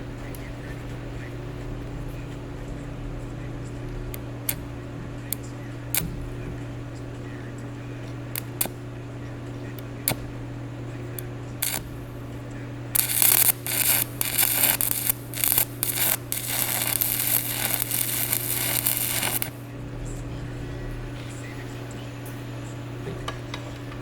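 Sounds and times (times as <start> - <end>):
crackling welding arc: 0.0 - 19.7
steady low hum: 0.0 - 24.0.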